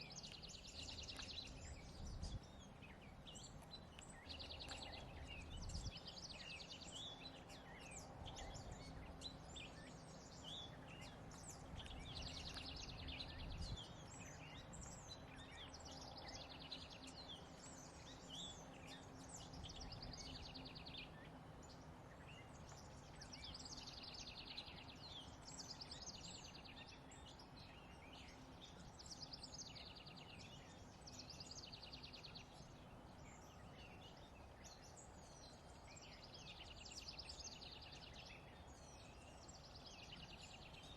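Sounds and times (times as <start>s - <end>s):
songbirds trilling and chirping: 0.0s - 40.9s.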